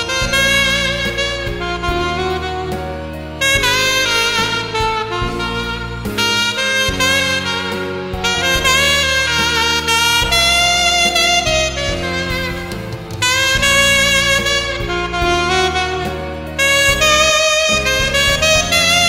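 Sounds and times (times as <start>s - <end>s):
backing track: 0.0s - 19.0s
saxophone ballad melody: 0.0s - 19.0s.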